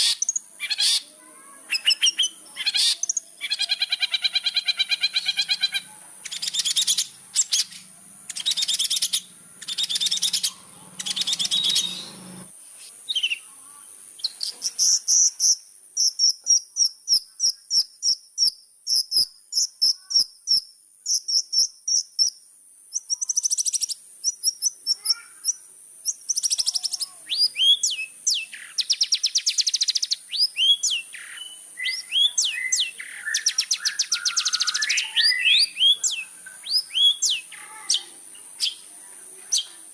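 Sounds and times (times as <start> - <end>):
shrike chattering song: 0.0 - 13.6, 14.2 - 39.9.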